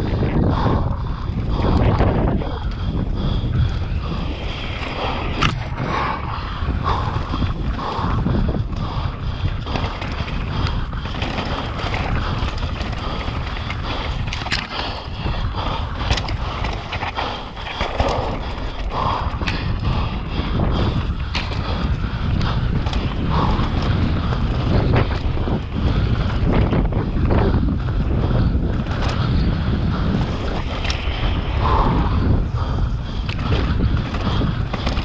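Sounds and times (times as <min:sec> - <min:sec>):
bike clicks and rattles: 0:00.0 - 0:35.0
bike tyres rumbling over dirt: 0:00.0 - 0:35.0
wind on microphone: 0:00.0 - 0:35.0.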